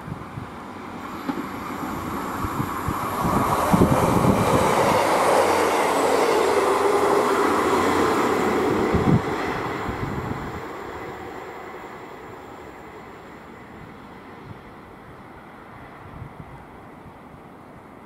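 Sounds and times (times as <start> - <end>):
diesel train approaching: 0.0 - 18.0.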